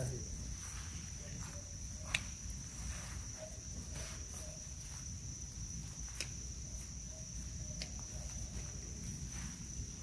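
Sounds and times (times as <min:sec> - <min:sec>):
insects chirping drone: 0:00.0 - 0:10.0.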